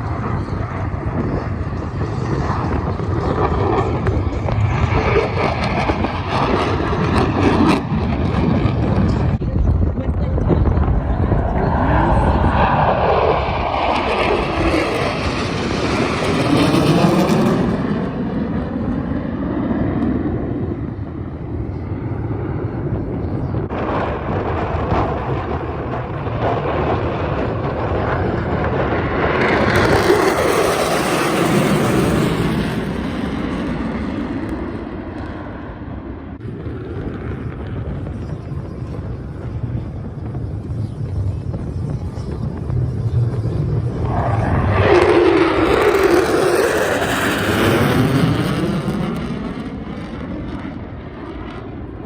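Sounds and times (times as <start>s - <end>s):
jet aircraft flying past: 0.0s - 52.0s.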